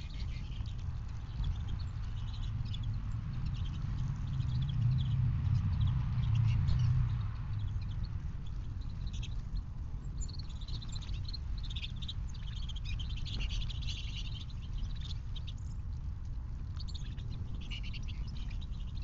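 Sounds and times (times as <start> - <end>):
songbirds chirping and twittering: 0.0 - 19.0
steady low rumble: 0.0 - 19.0.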